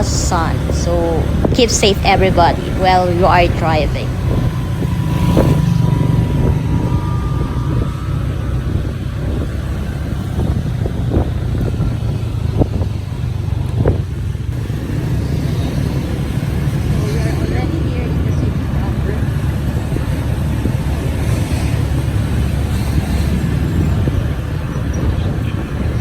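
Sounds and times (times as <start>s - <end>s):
scooter engine and road rumble: 0.0s - 26.0s.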